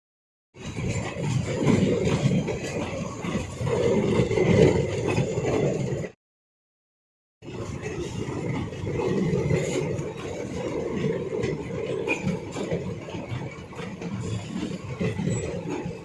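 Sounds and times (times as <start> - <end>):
passenger train running: 0.6 - 6.1, 7.5 - 16.0.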